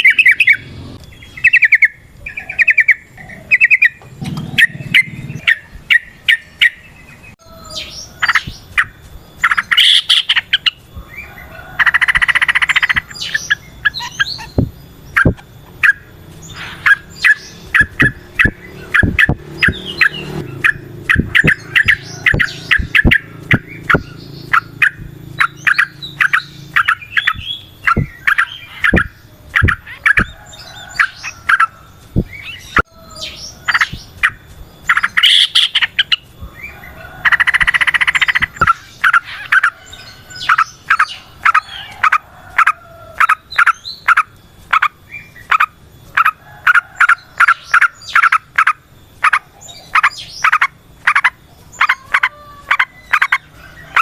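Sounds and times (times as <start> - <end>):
bird chattering song: 0.0 - 54.0
harsh buzzy bird chatter: 0.0 - 54.0.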